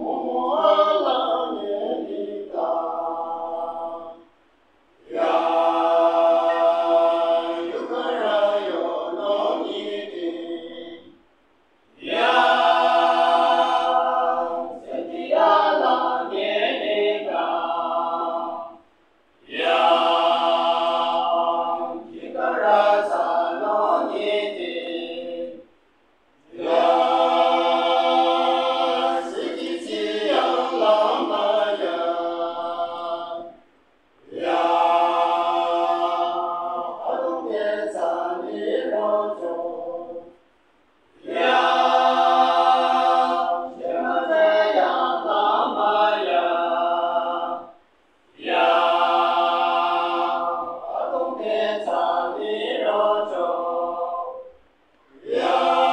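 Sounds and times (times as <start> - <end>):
male choir singing a cappella: 0.0 - 4.4, 5.0 - 11.2, 11.9 - 25.7, 26.4 - 40.5, 41.1 - 55.9.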